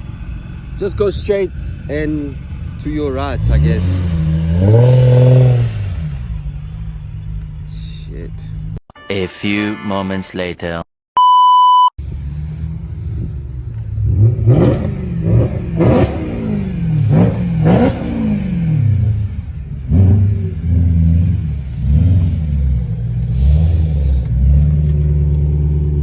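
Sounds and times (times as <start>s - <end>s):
car engine revving: 0.0s - 8.8s, 12.0s - 26.0s.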